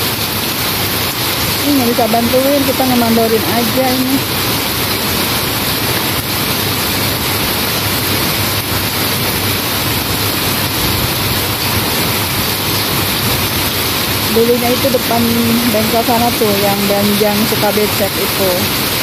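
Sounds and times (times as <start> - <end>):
heavy rain on concrete: 0.0 - 19.0.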